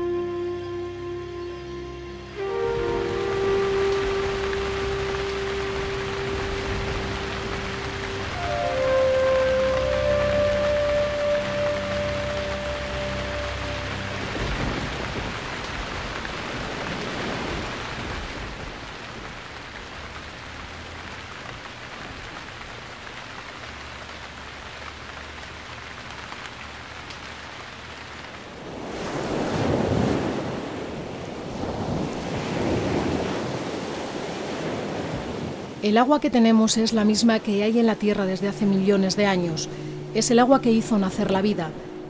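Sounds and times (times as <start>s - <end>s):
rain falling: 0.0s - 42.0s
ocean waves breaking: 2.0s - 22.3s, 28.4s - 42.0s.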